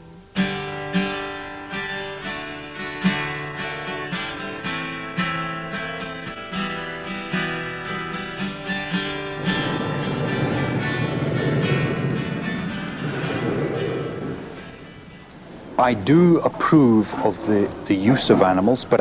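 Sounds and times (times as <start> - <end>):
plucked acoustic guitar notes: 0.0 - 15.3.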